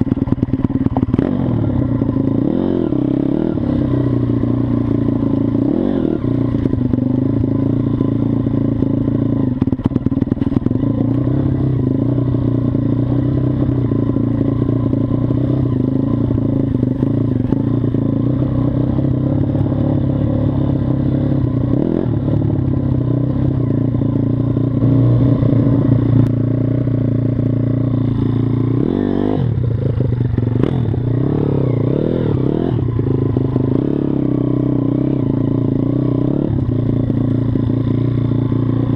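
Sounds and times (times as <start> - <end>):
pit bike engine running: 0.0 - 38.9.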